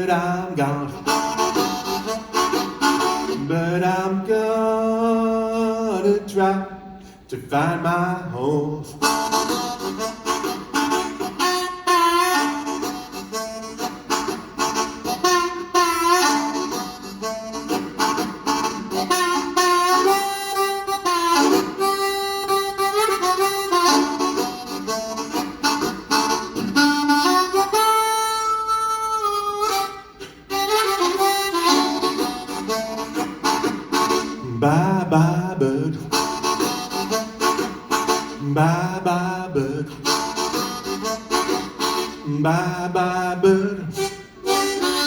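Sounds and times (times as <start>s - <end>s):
solo harmonica playing: 0.0s - 6.4s, 7.0s - 45.0s.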